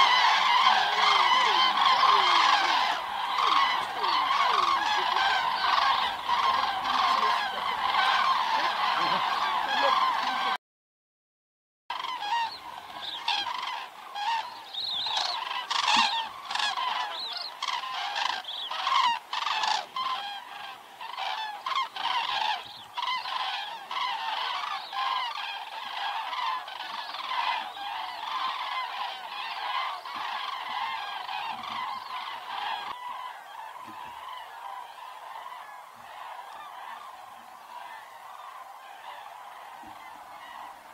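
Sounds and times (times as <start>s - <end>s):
flock of cranes calling: 0.0s - 10.6s, 11.9s - 40.9s.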